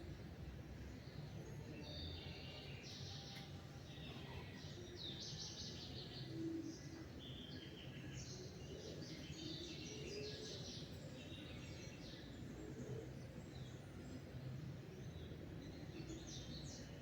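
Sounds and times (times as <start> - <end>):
songbirds chirping and singing: 0.2 - 17.0.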